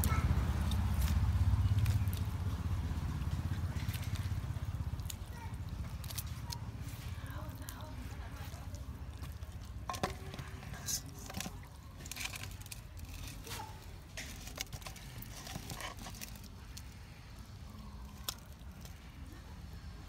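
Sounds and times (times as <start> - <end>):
low background rumble: 0.0 - 20.0
wet squishing and tearing: 0.0 - 20.0.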